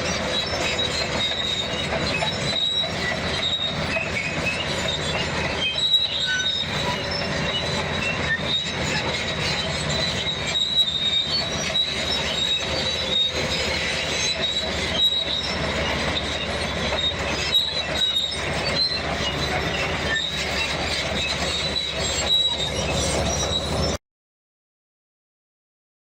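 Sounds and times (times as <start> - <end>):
bulldozer engine rumble: 0.0 - 24.0
crawler tracks squealing and clanking: 0.0 - 24.0.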